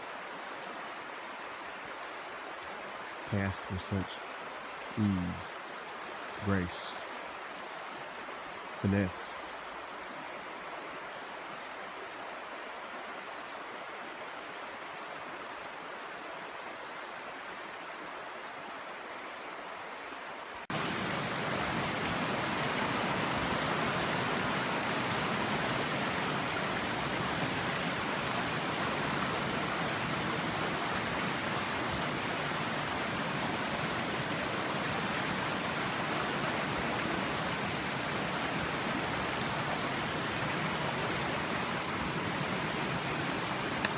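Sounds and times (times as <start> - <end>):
stream water rushing: 0.0 - 19.2, 20.7 - 43.9.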